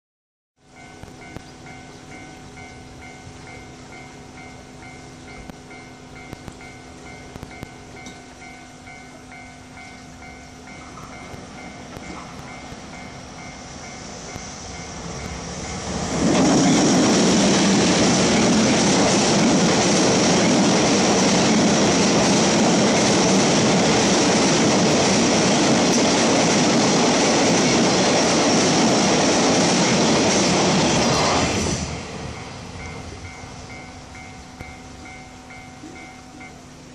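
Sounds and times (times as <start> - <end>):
freight train passing: 0.6 - 36.9
wheels on rails: 0.8 - 36.8.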